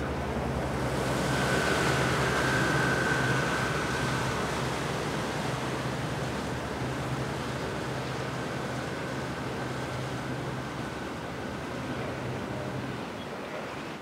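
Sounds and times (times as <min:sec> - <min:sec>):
boat engine humming: 0:00.0 - 0:13.2
faint high whine: 0:00.0 - 0:14.0
rush of boat wake: 0:00.0 - 0:14.0.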